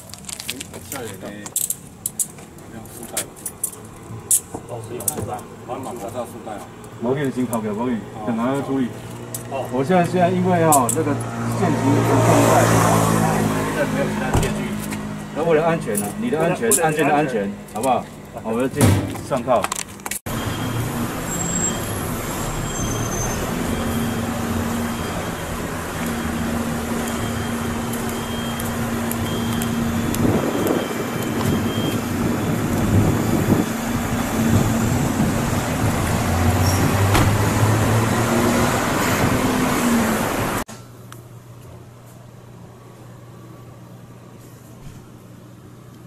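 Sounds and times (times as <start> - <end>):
vehicles passing on busy road: 0.0 - 40.7.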